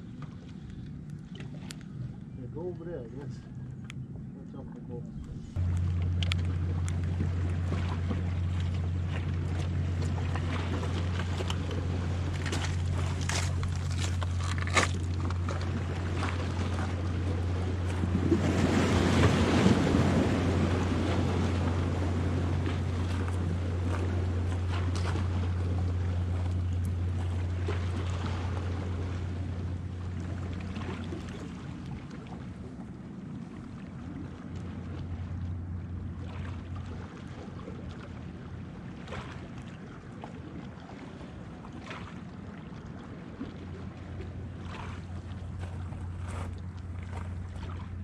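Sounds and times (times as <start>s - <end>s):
boat engine drone: 0.0s - 48.0s
low mechanical hum: 0.0s - 48.0s.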